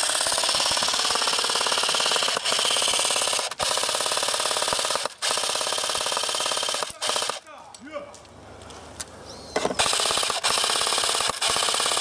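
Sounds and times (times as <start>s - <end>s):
airsoft gun firing bursts: 0.0s - 7.4s, 9.8s - 12.0s.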